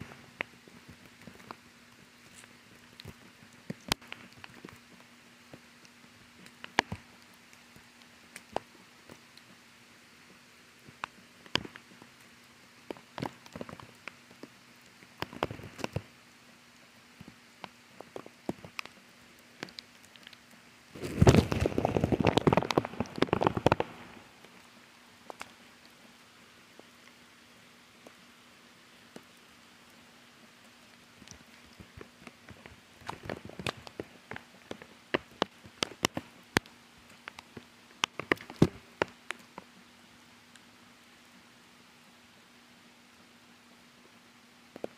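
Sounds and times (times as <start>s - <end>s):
light rain hiss: 0.0s - 44.9s.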